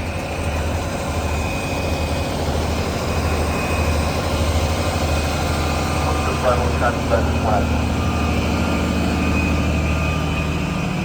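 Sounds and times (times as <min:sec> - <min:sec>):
heavy diesel engine idling: 0:00.0 - 0:11.0
street noise: 0:00.0 - 0:11.0.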